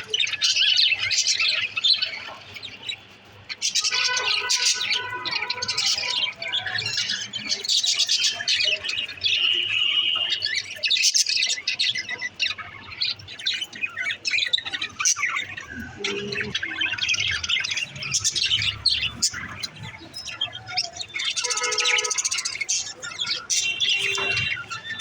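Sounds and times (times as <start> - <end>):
budgerigars chirping and squawking: 0.0 - 25.0.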